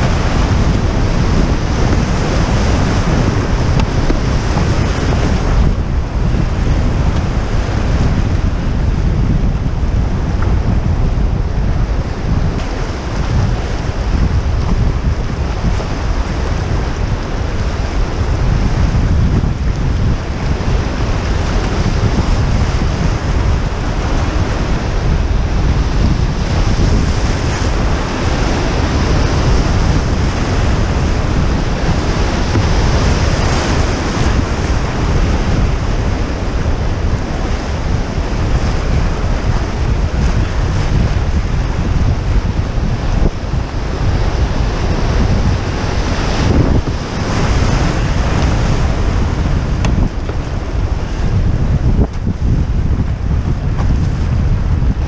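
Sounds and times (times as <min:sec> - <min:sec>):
whitewater rapids rushing: 0:00.0 - 0:53.8
wind rumbling on microphone: 0:00.0 - 0:55.0.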